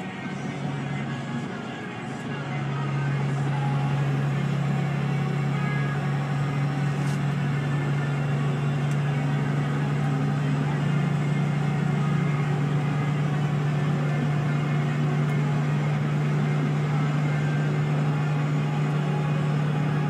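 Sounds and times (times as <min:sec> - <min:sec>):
car interior highway drone: 0:00.0 - 0:20.0.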